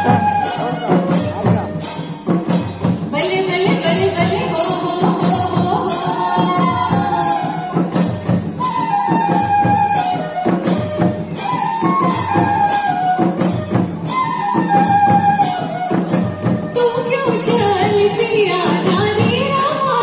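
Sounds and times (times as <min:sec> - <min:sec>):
drums and percussion beat: 0:00.0 - 0:20.0
folk dance melody: 0:00.0 - 0:20.0.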